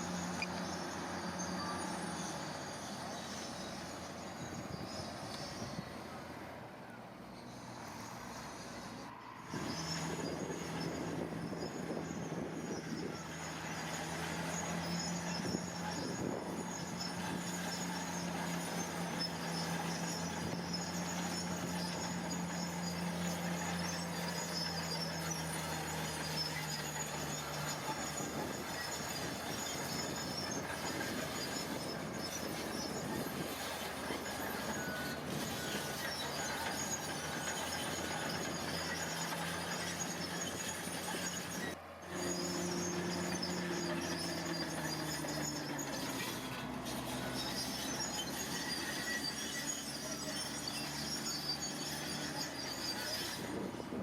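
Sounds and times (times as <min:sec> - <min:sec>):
crawler tracks squeaking and rattling: 0:00.0 - 0:54.0
diesel engine humming: 0:00.0 - 0:54.0.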